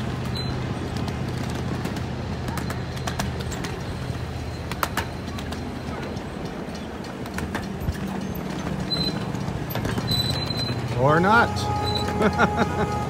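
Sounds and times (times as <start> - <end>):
train wheels clicking over rail joints: 0.0 - 13.0.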